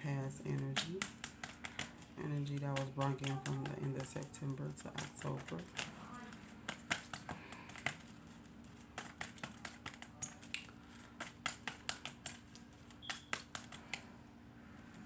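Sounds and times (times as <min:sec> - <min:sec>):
cards being shuffled: 0:00.3 - 0:14.1.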